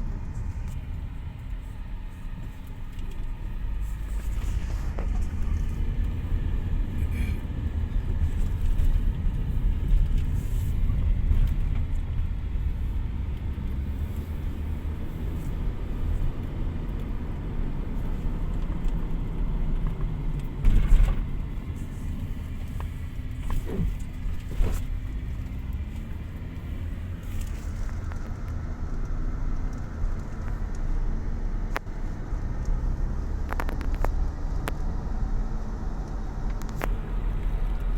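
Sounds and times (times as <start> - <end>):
vehicle driving rumble: 0.0 - 37.9.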